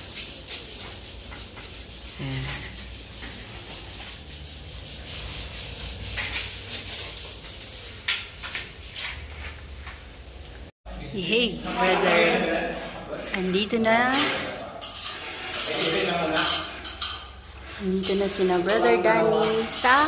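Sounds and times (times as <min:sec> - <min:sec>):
scraping and rubbing: 0:00.0 - 0:10.1, 0:11.5 - 0:20.0.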